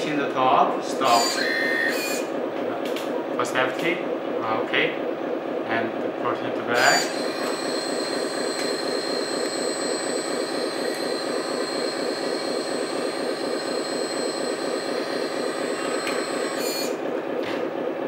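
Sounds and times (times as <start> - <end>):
hydraulic pump whining: 0.4 - 17.9.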